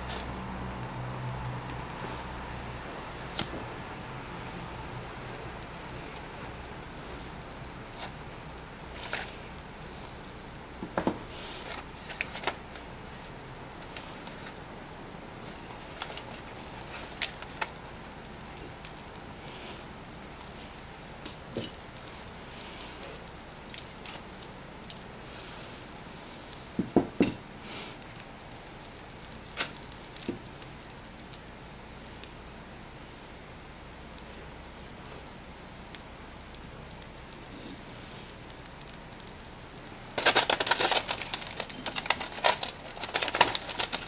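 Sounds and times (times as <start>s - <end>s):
crackles and pops: 0.0s - 44.0s
meat sizzling over charcoal: 0.0s - 44.0s.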